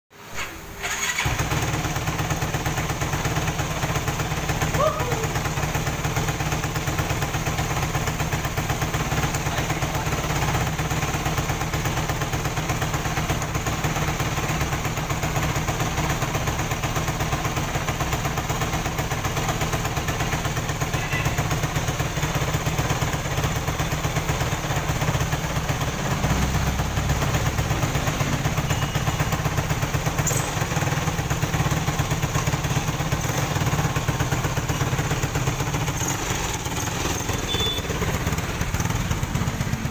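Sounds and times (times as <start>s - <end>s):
quad bike engine idling: 0.2s - 39.9s.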